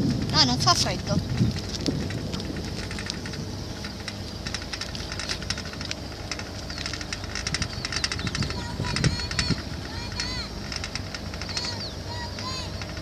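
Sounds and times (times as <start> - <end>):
boat engine running: 0.0 - 13.0
water and wind crackle: 0.0 - 13.0.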